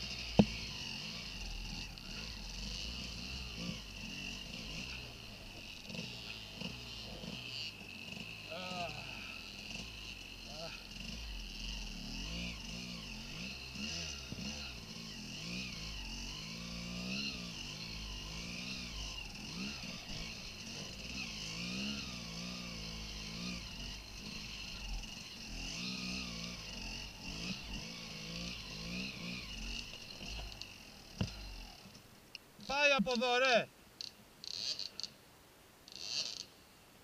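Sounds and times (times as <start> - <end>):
motorcycle engine revving: 0.0 - 32.0, 35.9 - 36.5.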